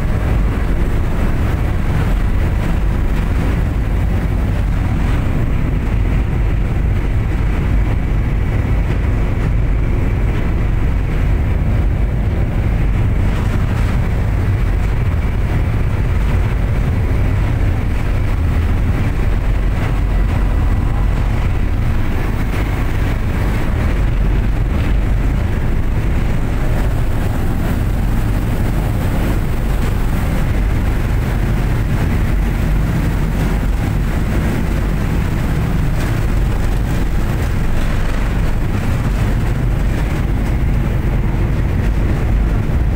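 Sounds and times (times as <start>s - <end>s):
deep engine rumble: 0.0s - 42.9s
water noise: 0.0s - 42.9s
wind noise: 0.0s - 42.9s.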